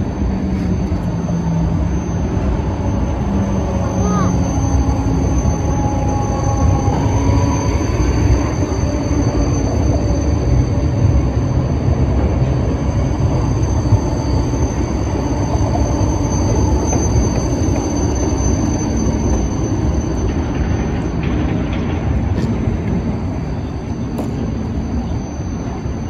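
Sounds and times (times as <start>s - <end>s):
thin high whine: 0.0s - 26.0s
tram wheels rumbling on rail: 0.0s - 26.0s.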